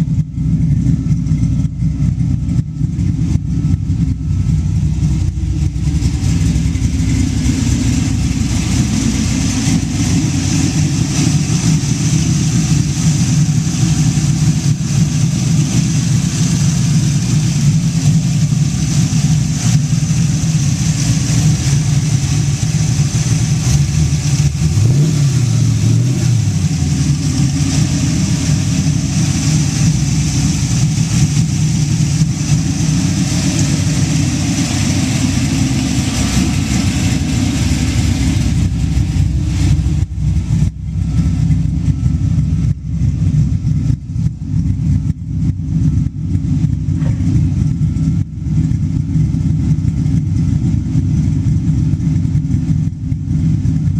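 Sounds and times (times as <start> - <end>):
choppy engine idling and revving: 0.0 - 53.9.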